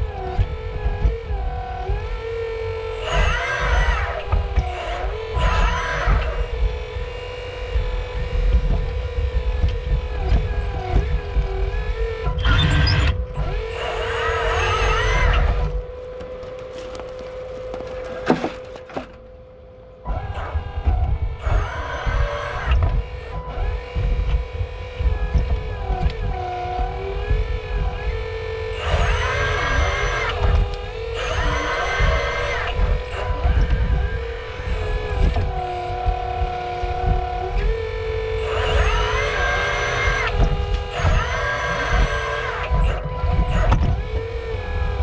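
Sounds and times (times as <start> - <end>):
hydraulic pump whining: 0.0 - 45.0
low rumbling and thumps: 0.0 - 45.0.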